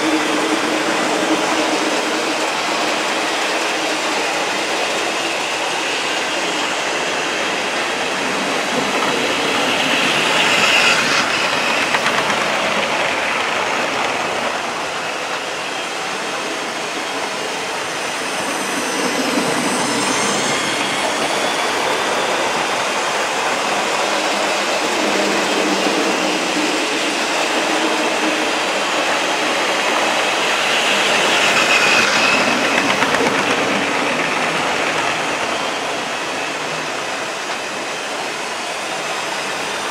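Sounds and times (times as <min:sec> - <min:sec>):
model trains rumbling on track: 0:00.0 - 0:39.9.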